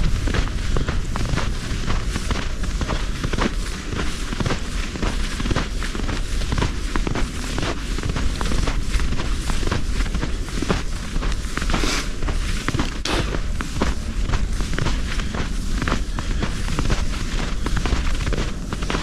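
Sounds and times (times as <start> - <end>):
footsteps in snow: 0.0 - 19.0
wind buffeting microphone: 0.0 - 19.0.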